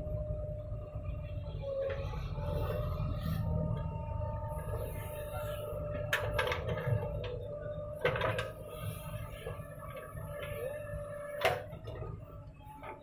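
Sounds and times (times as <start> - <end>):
backhoe engine with hydraulic whine: 0.0 - 13.0.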